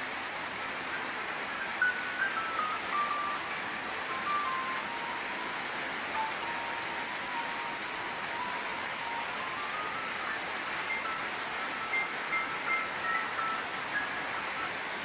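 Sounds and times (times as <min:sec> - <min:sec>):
rain-like hiss: 0:00.0 - 0:15.0
slow melody of held notes: 0:00.9 - 0:15.0.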